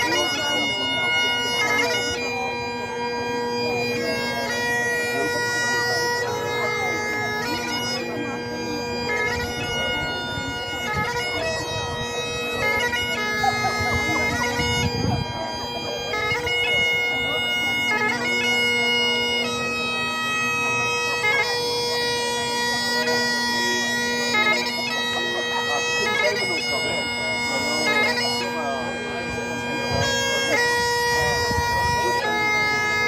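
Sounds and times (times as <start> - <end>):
bagpipe chanter melody: 0.0 - 33.0
bagpipe drones: 0.0 - 33.0.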